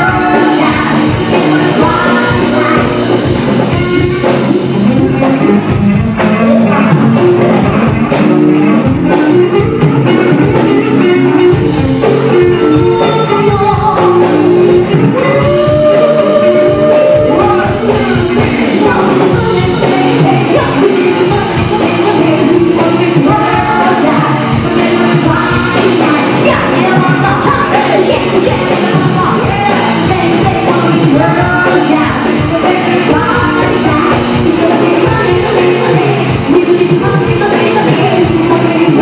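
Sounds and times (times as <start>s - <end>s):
live pop-rock band: 0.0s - 39.0s
person singing: 0.0s - 39.0s.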